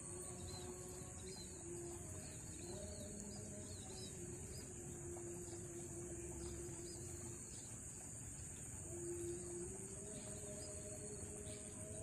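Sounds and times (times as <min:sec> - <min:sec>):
birds chirping: 0:00.0 - 0:12.0
insects droning: 0:00.0 - 0:12.0.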